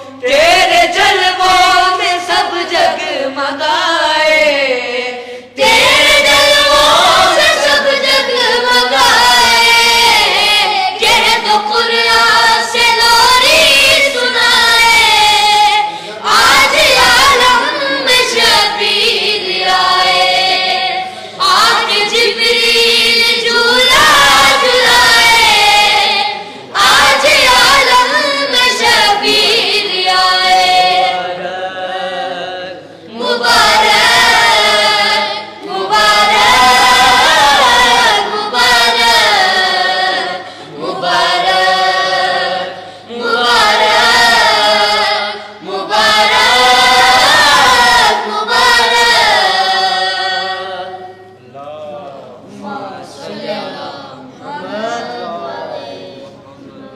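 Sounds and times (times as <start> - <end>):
boys singing unaccompanied: 0.0 - 56.9.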